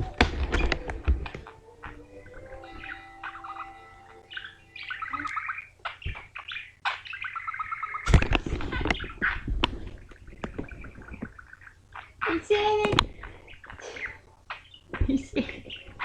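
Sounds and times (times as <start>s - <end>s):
parakeet chattering and warbling: 0.0s - 16.0s.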